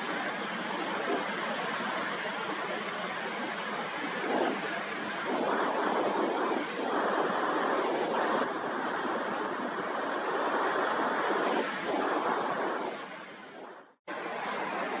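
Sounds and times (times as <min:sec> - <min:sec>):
sea surf breaking on shore: 0:00.0 - 0:15.0
wind buffeting microphone: 0:00.0 - 0:15.0.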